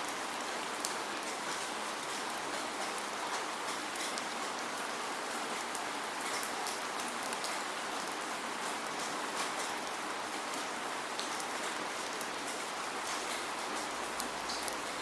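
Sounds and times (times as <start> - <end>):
steady rain pattering: 0.0 - 15.0.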